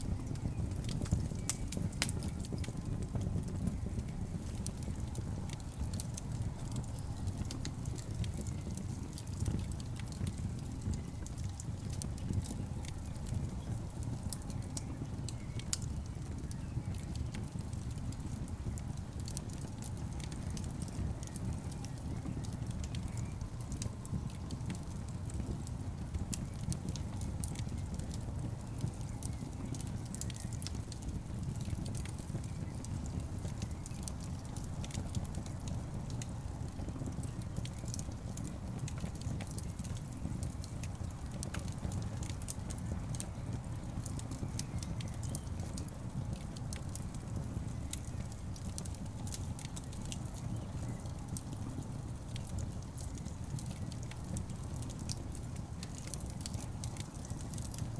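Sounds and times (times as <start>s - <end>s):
wood crackles and pops: 0.0s - 57.9s.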